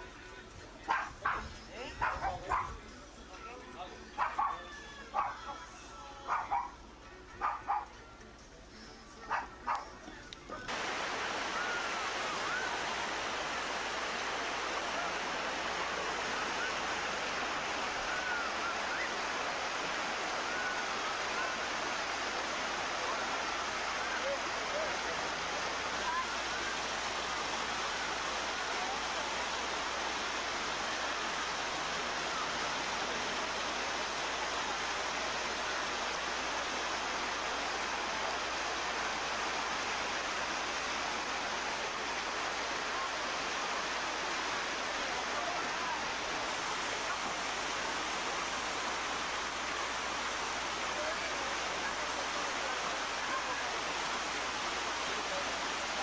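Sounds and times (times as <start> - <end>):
stream running over rocks: 9.2 - 56.0.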